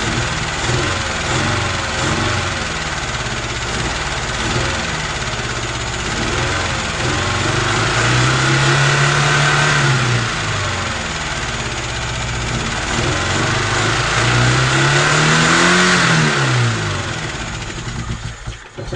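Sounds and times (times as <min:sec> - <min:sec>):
car engine revving roughly: 0:00.0 - 0:18.9.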